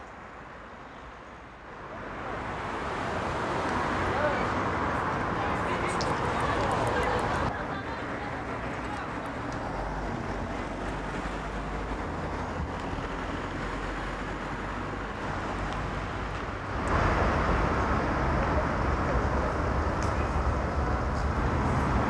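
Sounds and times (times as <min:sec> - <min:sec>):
passing cars traffic noise: 0:00.0 - 0:22.0.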